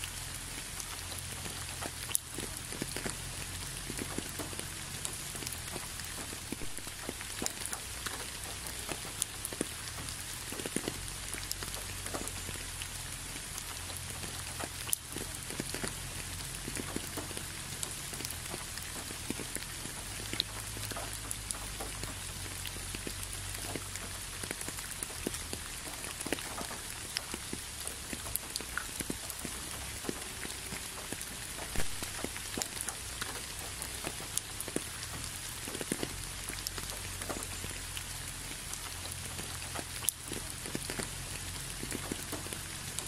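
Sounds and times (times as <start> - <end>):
raindrops ticking: 0.0 - 43.0
steady rainfall: 0.0 - 43.0.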